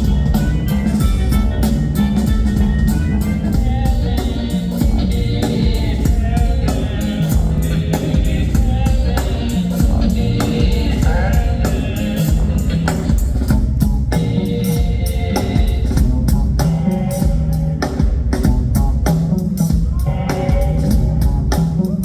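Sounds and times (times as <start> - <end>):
bass: 0.0 - 22.0
drum kit steady beat: 0.0 - 22.0
organ-like keyboard: 0.0 - 22.0.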